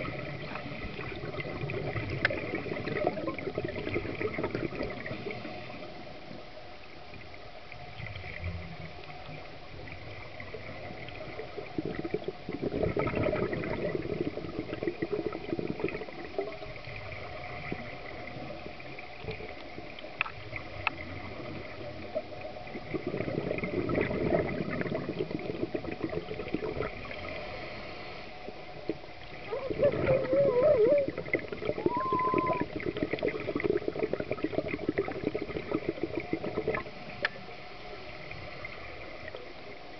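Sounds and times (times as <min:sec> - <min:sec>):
underwater hiss: 0:00.0 - 0:06.4, 0:08.0 - 0:39.8
exhaled air bubbles underwater: 0:00.0 - 0:06.5, 0:07.7 - 0:39.9.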